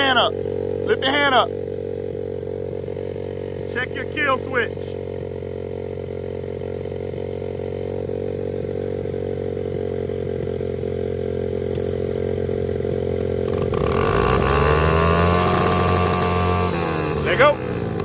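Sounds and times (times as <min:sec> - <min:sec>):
louder engine revving: 0:00.0 - 0:09.5, 0:11.8 - 0:18.0
dirt bike engine idling: 0:00.0 - 0:18.0.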